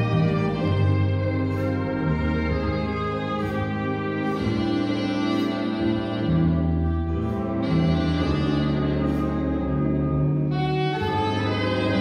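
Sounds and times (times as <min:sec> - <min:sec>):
jazz big band playing a ballad: 0:00.0 - 0:12.0.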